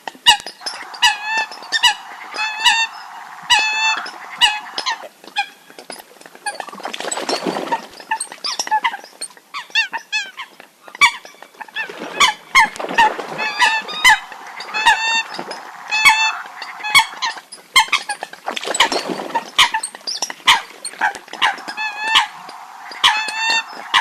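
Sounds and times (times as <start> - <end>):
water hens honking: 0.3 - 9.0, 11.0 - 24.0.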